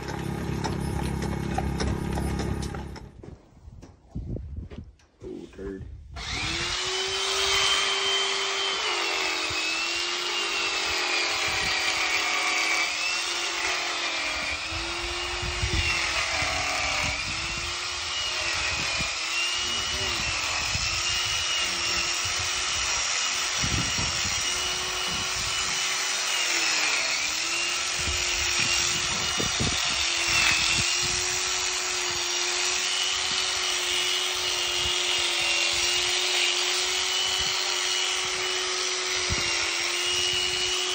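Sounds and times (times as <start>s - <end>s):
electric horse clippers humming: 0.0s - 3.2s, 6.2s - 40.9s.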